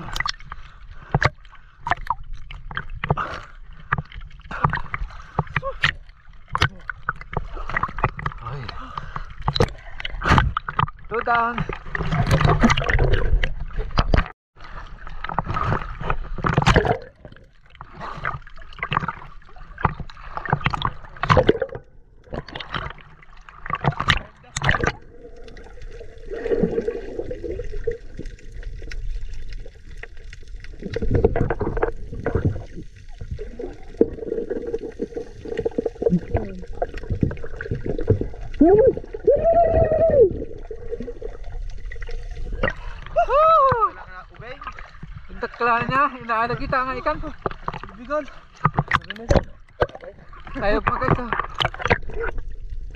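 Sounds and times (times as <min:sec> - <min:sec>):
sea water splashing: 0:00.0 - 0:52.9
underwater bubbling: 0:00.0 - 0:52.9
underwater low hum: 0:00.0 - 0:52.9.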